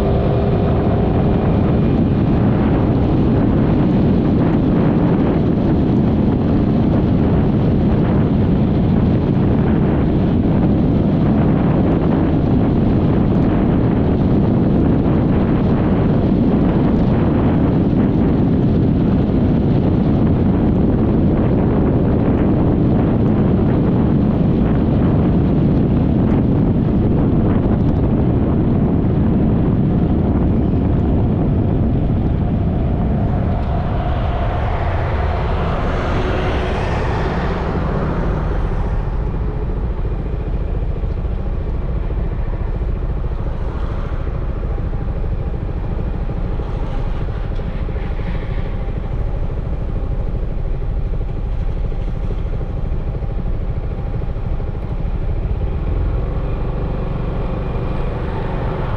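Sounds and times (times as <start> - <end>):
heavy wind: 0.0 - 58.9
road rumble: 0.0 - 58.9.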